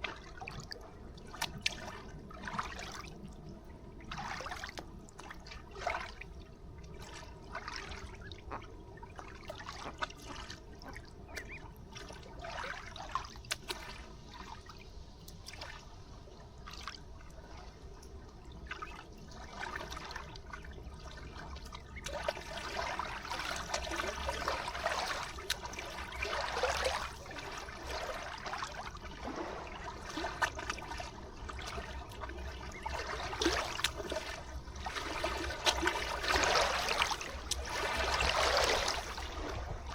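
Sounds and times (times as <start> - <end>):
river water lapping at shore: 0.0 - 39.9.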